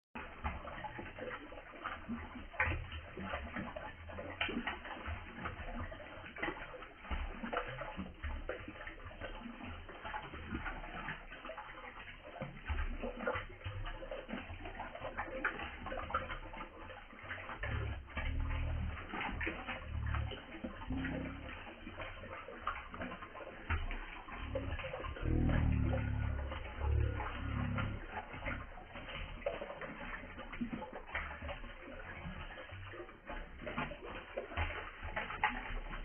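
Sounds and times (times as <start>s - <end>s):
water splashing and dripping: 0.2s - 36.0s.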